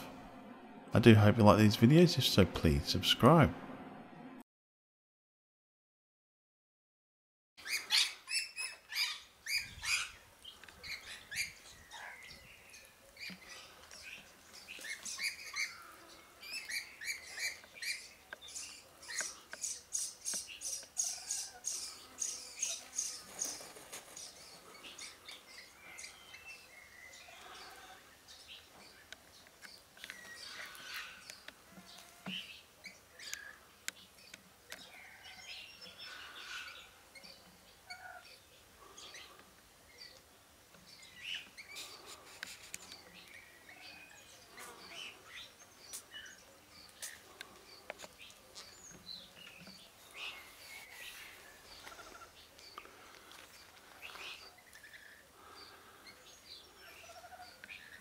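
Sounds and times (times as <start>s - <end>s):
wild birds chirping: 7.6s - 58.0s.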